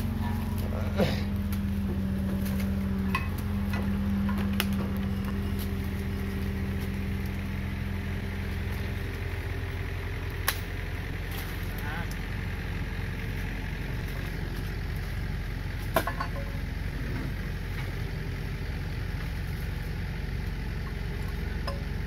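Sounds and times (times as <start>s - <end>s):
excavator diesel engine humming: 0.0s - 22.0s.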